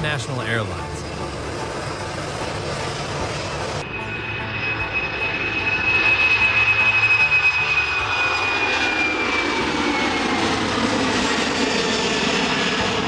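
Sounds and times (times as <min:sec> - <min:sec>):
jet engines whining on takeoff: 0:00.0 - 0:13.0.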